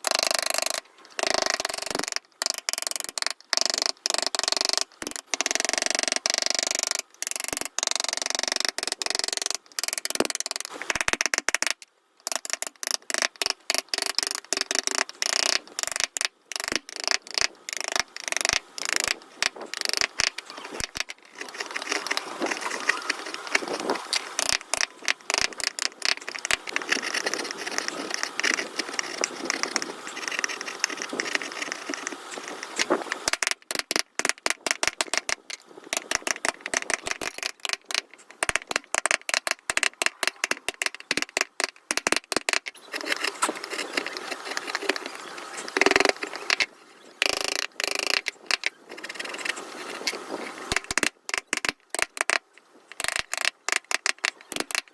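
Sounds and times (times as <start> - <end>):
chisel scraping and cutting wood: 0.0 - 54.9.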